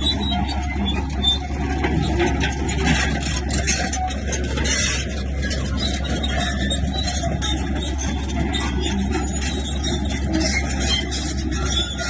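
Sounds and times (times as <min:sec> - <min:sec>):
bulldozer engine: 0:00.0 - 0:12.0
steel tracks squealing: 0:00.0 - 0:12.0.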